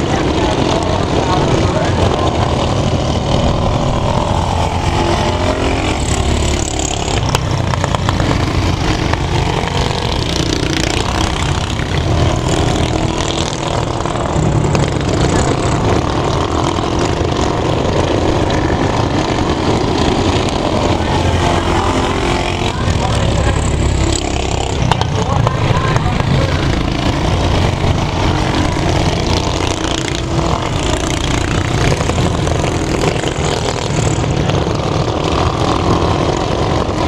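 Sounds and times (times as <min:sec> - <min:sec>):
minibike engines racing: 0:00.0 - 0:37.0.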